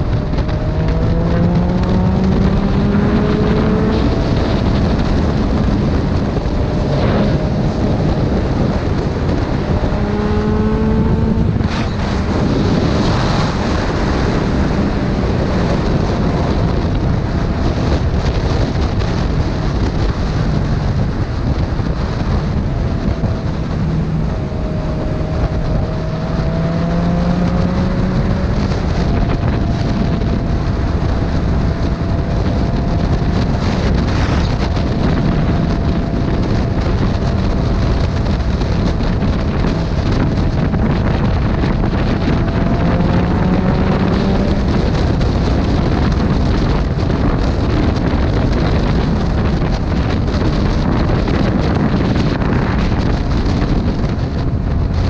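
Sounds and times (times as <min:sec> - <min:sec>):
motorcycle engine hum: 0:00.0 - 0:55.0
wind rush on microphone: 0:00.0 - 0:55.0.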